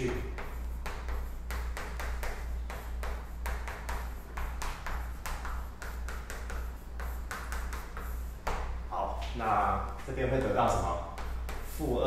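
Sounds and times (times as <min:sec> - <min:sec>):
chalk tapping and scraping on blackboard: 0:00.0 - 0:12.0
steady low hum: 0:00.0 - 0:12.0.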